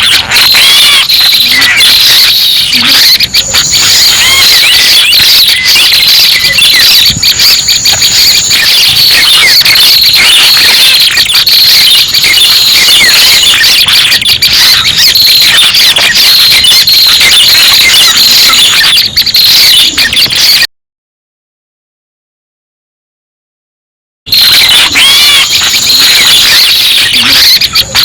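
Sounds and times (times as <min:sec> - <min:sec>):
bird chirping and trilling: 0:00.0 - 0:20.7, 0:24.3 - 0:28.0.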